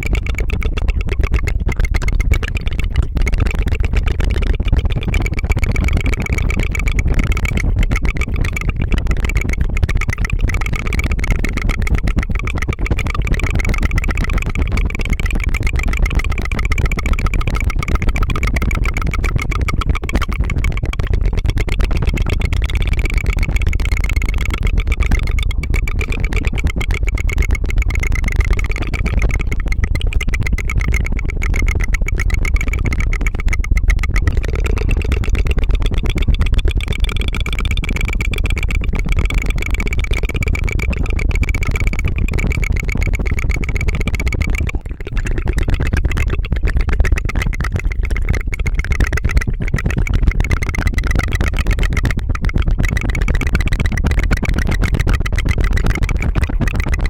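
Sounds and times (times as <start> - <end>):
tongue fluttering rattle: 0.0 - 57.0.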